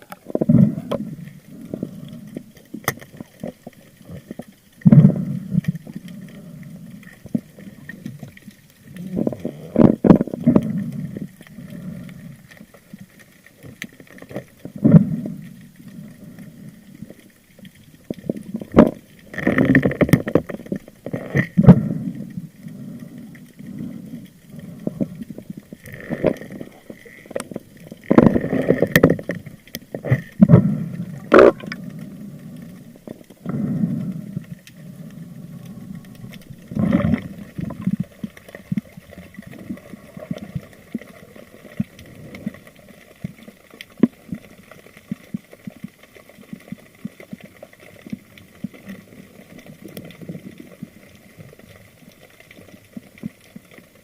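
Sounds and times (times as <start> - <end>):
water sloshing and bubbling: 0.0 - 54.0.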